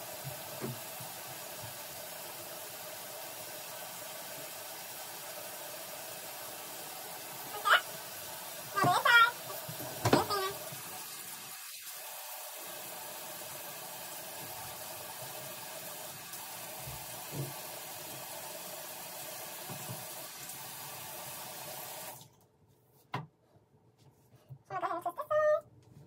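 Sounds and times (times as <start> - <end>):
water running in a bathroom: 0.0 - 22.5.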